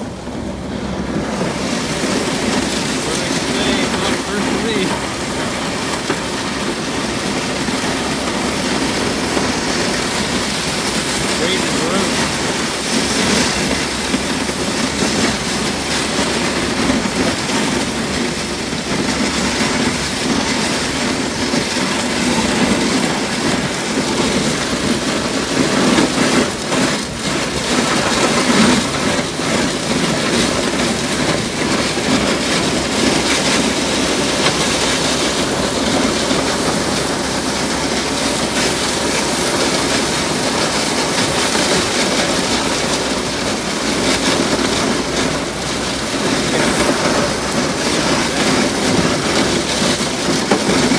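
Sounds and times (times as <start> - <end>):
pickup truck engine: 0.0 - 50.9
snow pushing against plow blade: 0.0 - 50.9.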